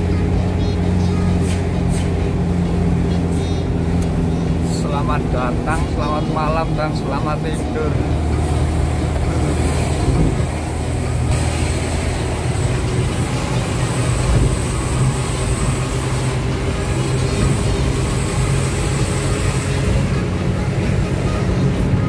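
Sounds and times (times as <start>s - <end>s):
road noise: 0.0s - 22.0s
truck engine droning: 0.0s - 22.0s.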